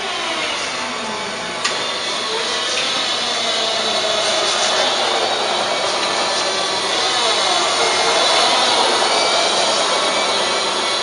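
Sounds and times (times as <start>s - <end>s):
forklift running: 0.0s - 11.0s.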